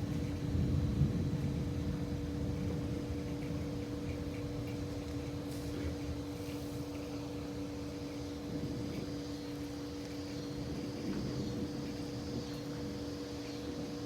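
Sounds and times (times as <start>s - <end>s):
low rumble of thunder: 0.0s - 6.3s, 6.9s - 14.0s
steady two-tone hum: 0.0s - 14.0s.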